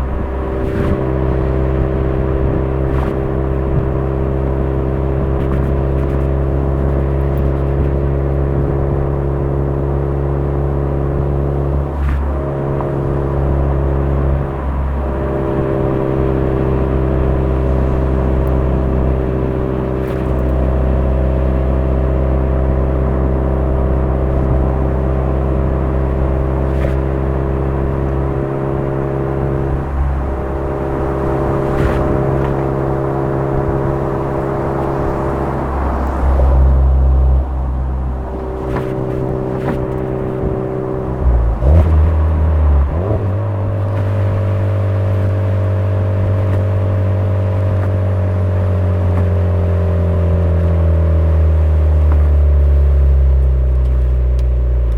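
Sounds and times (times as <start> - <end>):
car engine cruising: 0.0 - 54.9.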